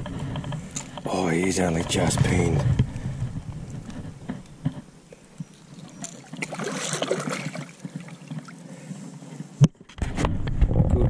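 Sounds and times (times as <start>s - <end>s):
water trickling and sloshing: 0.0s - 9.4s
fish splashing and thrashing: 0.0s - 9.6s.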